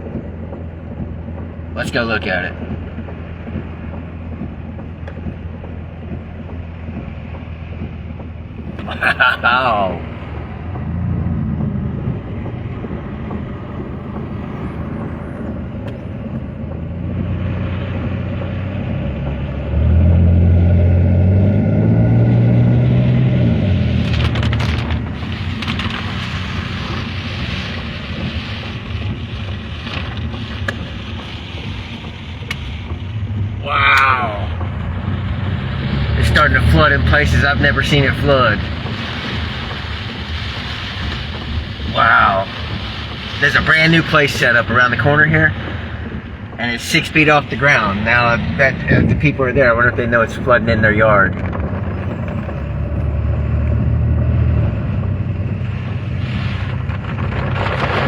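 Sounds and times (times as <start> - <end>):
road noise hiss: 0.0 - 58.0
vehicle engine hum: 0.0 - 58.0.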